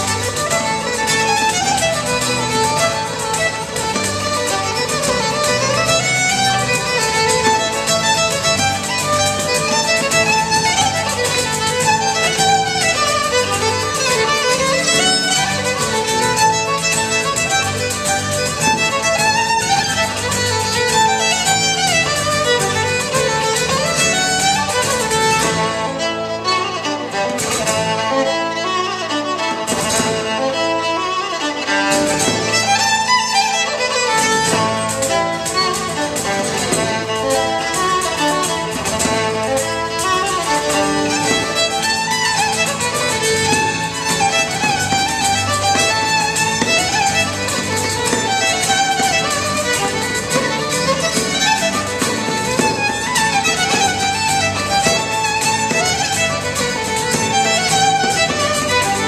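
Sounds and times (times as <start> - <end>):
bass and percussion: 0.0 - 25.9, 27.4 - 28.0, 29.6 - 30.4, 31.9 - 59.0
fiddle playing a tune: 0.0 - 59.0.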